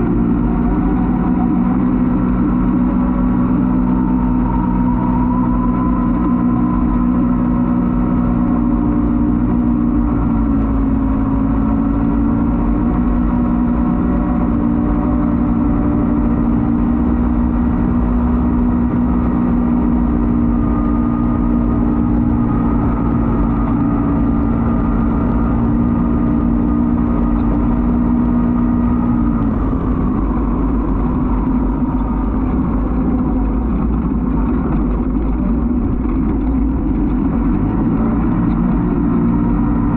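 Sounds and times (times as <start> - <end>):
race vehicle engine running: 0.0 - 39.9.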